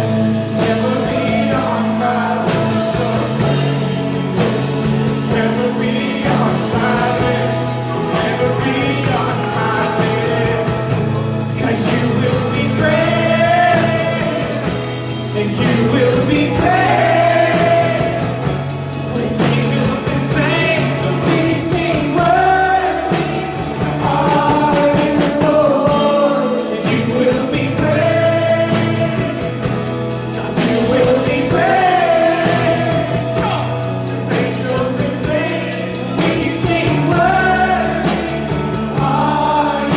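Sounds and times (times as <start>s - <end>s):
singers leading: 0.0s - 39.9s
worship band playing gospel song: 0.0s - 39.9s.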